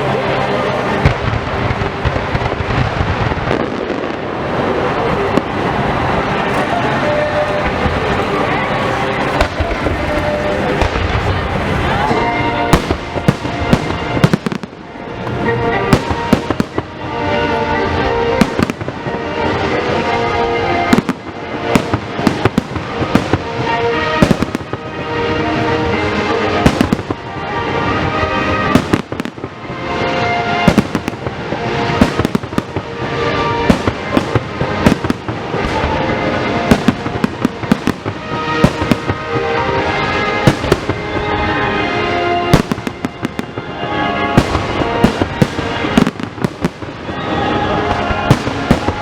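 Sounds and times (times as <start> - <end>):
fireworks bangs and crackles: 0.0 - 49.0
music: 0.0 - 49.0.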